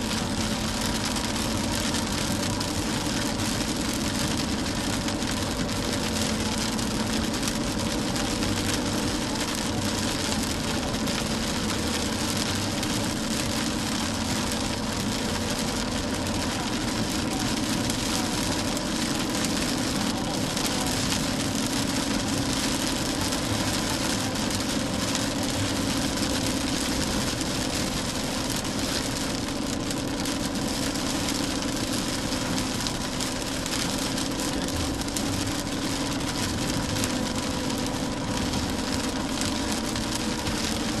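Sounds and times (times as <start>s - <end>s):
car engine hum: 0.0s - 41.0s
heavy rain: 0.0s - 41.0s
tyre noise on wet road: 0.0s - 41.0s.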